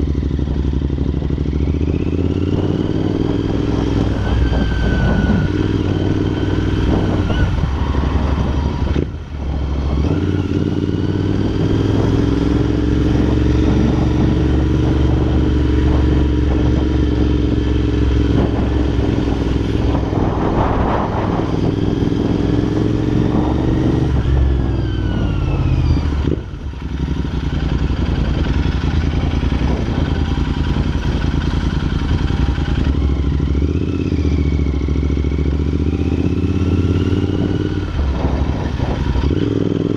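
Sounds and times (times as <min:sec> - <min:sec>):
motorcycle engine riding: 0:00.0 - 0:39.9
wind buffeting microphone: 0:00.1 - 0:39.9.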